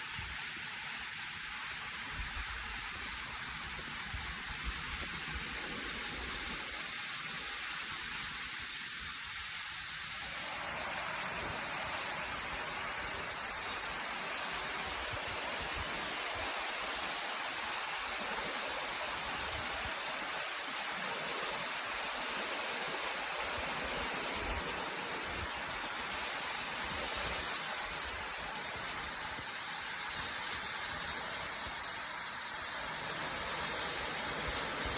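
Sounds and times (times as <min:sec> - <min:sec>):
rushing water of a stream: 0:00.0 - 0:34.9.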